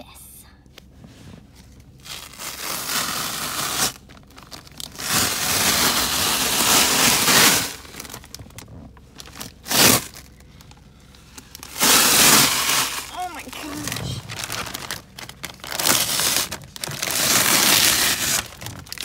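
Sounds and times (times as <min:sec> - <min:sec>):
plastic sheet crinkling: 0:02.0 - 0:10.4, 0:11.4 - 0:19.0.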